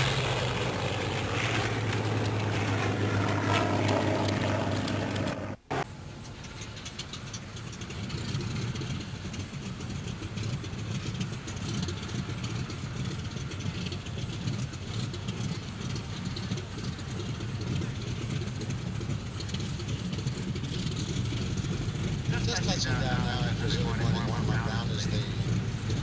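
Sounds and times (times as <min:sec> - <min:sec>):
piston aircraft engine rumbling: 0:00.0 - 0:26.0.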